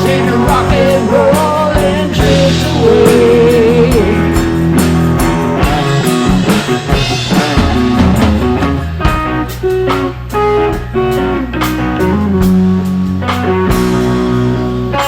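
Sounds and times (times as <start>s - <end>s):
bass: 0.0s - 15.0s
drum kit: 0.0s - 15.0s
electric guitar notes: 0.0s - 15.0s.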